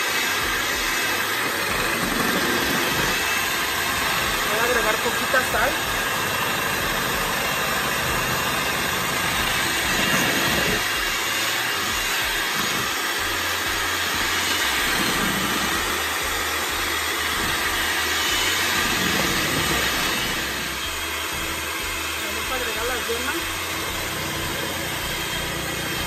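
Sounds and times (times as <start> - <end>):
electric hand mixer whipping: 0.0 - 26.0.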